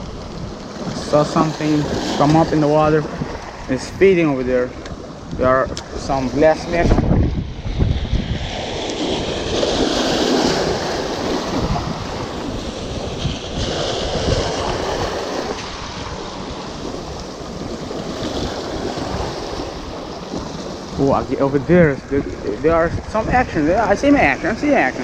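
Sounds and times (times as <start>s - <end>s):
sea waves washing on shore: 0.0s - 25.0s
wind rumbling on microphone: 0.0s - 25.0s.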